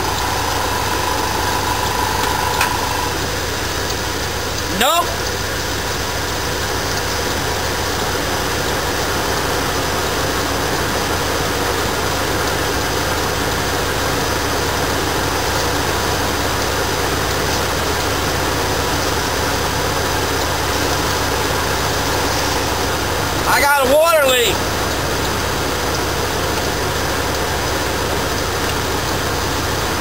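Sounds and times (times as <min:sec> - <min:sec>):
van engine idling: 0:00.0 - 0:30.0.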